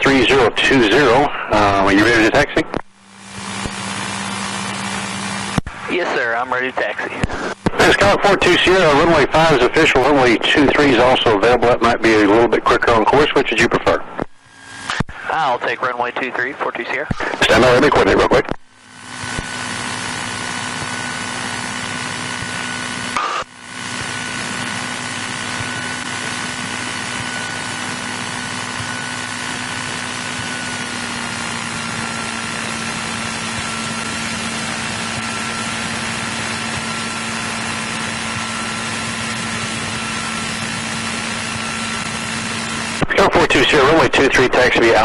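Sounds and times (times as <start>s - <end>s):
airplane engine idling: 0.0s - 45.0s.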